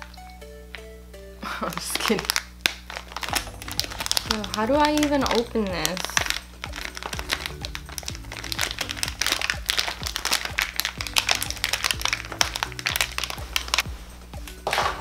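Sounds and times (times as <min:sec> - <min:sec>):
background music with steady beat: 0:00.0 - 0:01.7, 0:03.2 - 0:15.0
plastic wrapper crinkling: 0:01.4 - 0:13.9.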